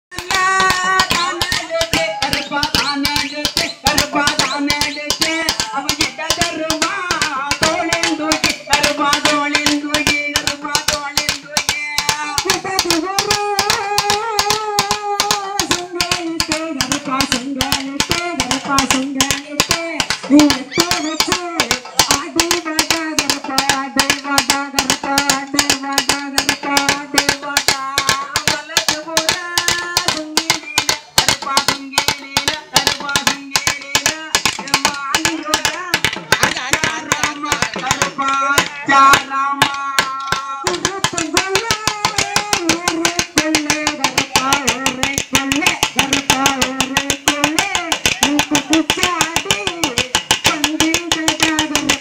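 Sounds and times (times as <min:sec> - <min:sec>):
fast folk percussion strikes: 0:00.0 - 0:52.0
fast dense drumming: 0:00.1 - 0:52.0
held melody line: 0:00.1 - 0:52.0.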